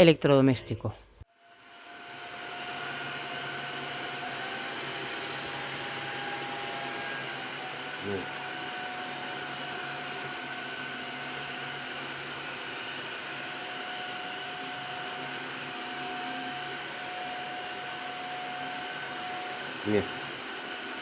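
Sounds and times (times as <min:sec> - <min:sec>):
floor washer motor whining: 0:01.4 - 0:21.0.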